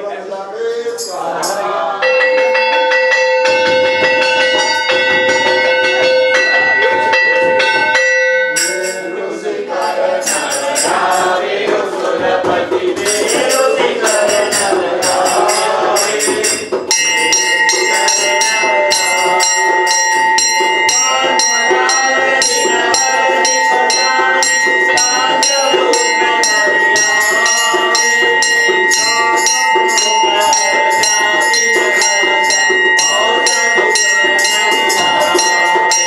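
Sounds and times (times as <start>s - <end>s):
group of voices singing: 0.0s - 36.0s
rhythmic jingling percussion: 0.8s - 36.0s
sustained ringing tone: 2.0s - 11.6s, 13.1s - 36.0s.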